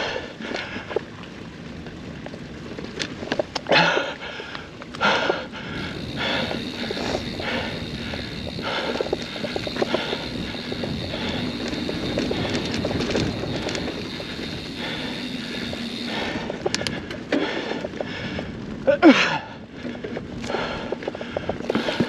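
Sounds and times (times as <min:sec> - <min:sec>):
bike tyre and drivetrain noise: 0:00.0 - 0:22.0.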